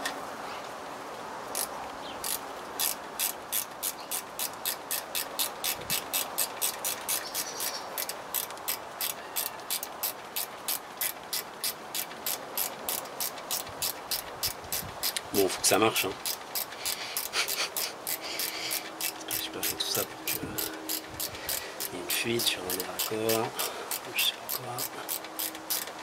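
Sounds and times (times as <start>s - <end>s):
ratchet wrench clicking: 1.5s - 15.3s, 16.0s - 26.0s.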